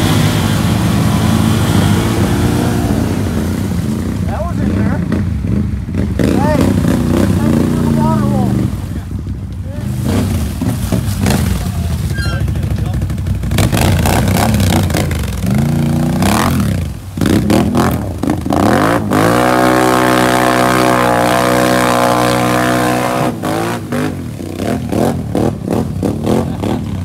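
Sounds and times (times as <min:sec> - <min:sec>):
atv engine revving: 0:00.0 - 0:27.0
vehicle ploughing through mud and water: 0:00.0 - 0:27.0.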